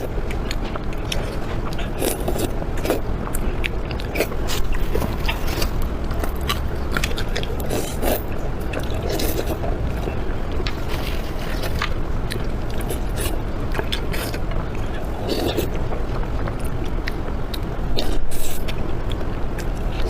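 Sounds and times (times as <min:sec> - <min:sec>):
steady low hum: 0:00.0 - 0:20.0
wet chewing and mouth smacks: 0:00.0 - 0:20.0.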